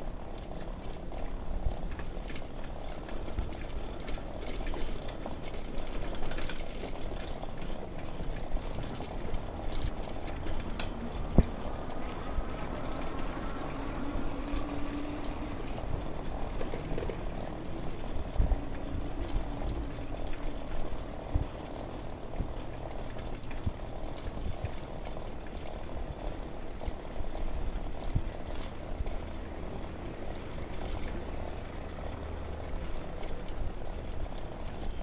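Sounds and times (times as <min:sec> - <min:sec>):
bicycle rattling: 0:00.0 - 0:35.0
bicycle tyres on bricks: 0:00.0 - 0:35.0.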